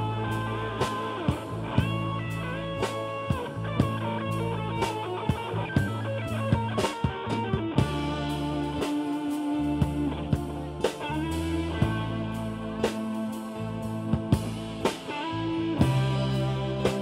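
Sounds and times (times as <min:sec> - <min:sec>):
bass line: 0:00.0 - 0:17.0
drum kit: 0:00.0 - 0:17.0
electric guitar: 0:00.0 - 0:17.0.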